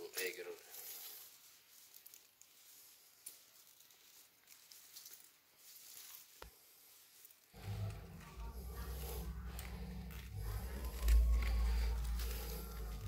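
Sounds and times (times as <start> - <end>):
rustling of mesh bags: 0.0 - 13.0.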